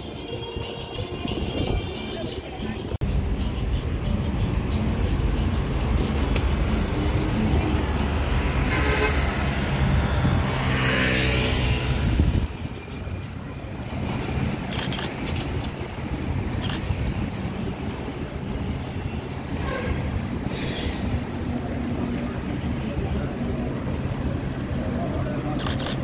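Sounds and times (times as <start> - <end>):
distant traffic: 0.0 - 26.0
vehicles passing close by: 0.0 - 26.0.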